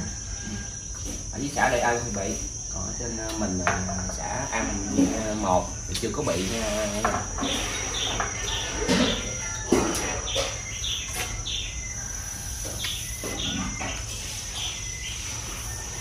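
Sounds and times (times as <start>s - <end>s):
birds chirping: 0.0s - 16.0s
high-pitched insect drone: 0.0s - 16.0s.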